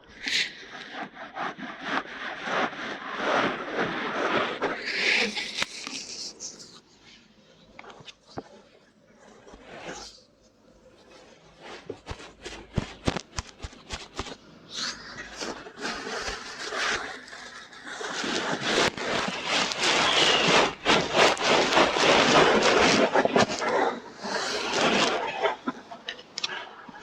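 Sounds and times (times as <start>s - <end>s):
scratching and rustling on microphone: 0.2s - 27.0s.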